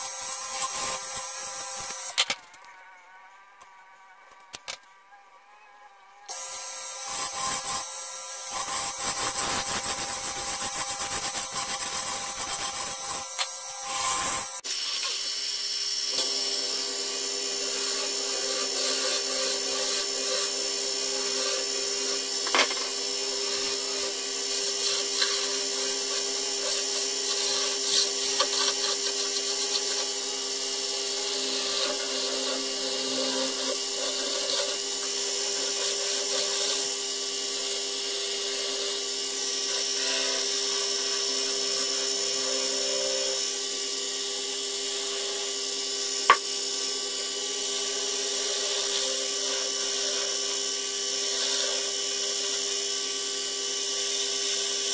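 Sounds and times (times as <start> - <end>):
turning tool cutting wood: 0.0 - 2.8, 6.3 - 54.9
wood lathe motor hum: 6.3 - 54.9.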